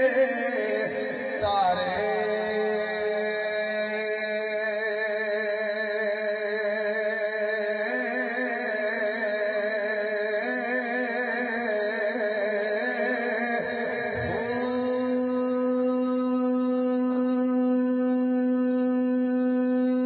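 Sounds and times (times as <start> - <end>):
man chanting with vibrato: 0.0 - 20.0.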